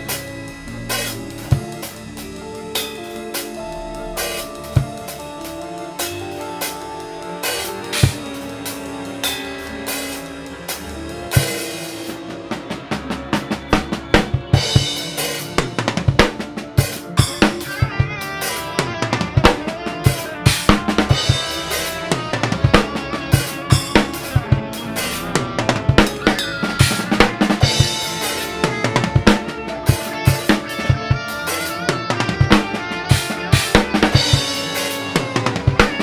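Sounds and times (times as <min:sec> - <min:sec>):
backing track music: 0:00.0 - 0:36.0
drum kit playing fast: 0:00.0 - 0:36.0.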